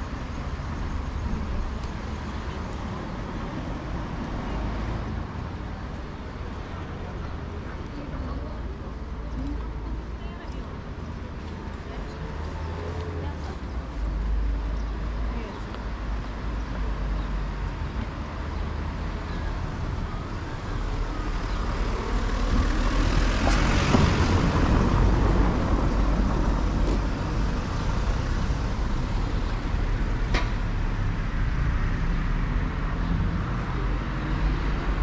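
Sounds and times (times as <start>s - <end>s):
steady low traffic rumble: 0.0s - 35.0s.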